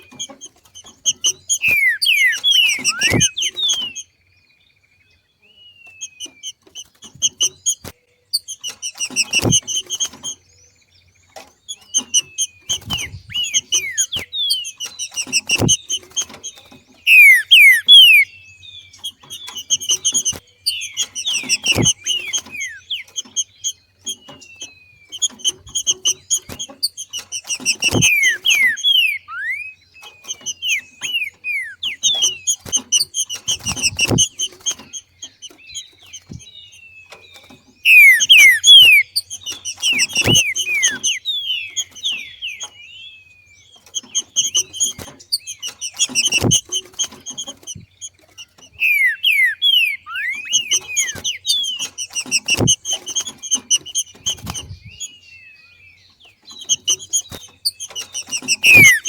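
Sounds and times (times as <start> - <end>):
bird chattering and whistles: 0.0 - 4.2, 5.4 - 10.7, 11.3 - 59.0.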